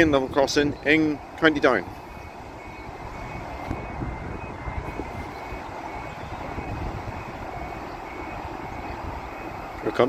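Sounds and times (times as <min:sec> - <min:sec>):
faint level crossing alarm tones: 0:00.0 - 0:10.0.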